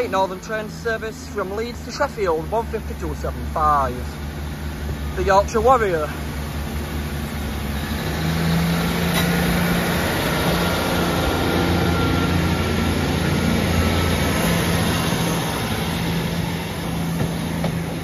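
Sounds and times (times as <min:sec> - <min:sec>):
train diesel engine drone: 0:00.0 - 0:18.0.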